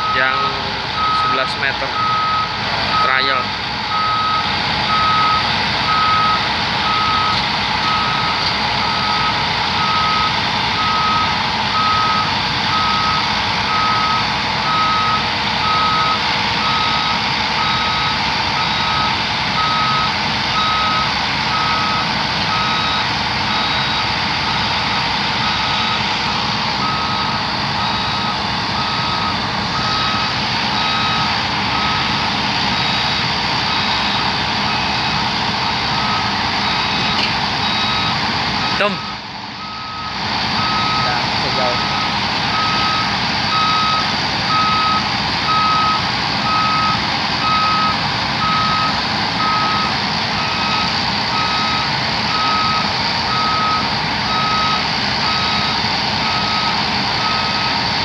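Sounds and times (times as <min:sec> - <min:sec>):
travel alarm beeping: 0:00.0 - 0:58.0.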